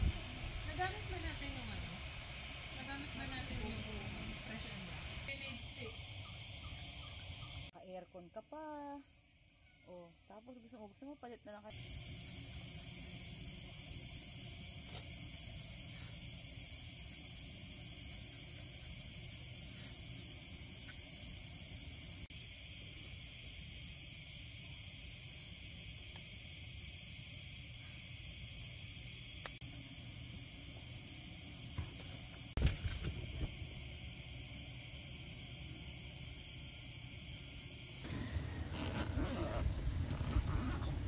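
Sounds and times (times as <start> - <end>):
night insects chirring: 0.0 - 40.9.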